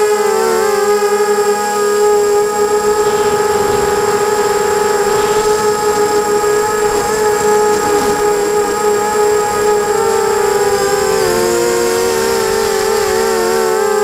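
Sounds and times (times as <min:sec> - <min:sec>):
drone motors whining: 0:00.4 - 0:14.0.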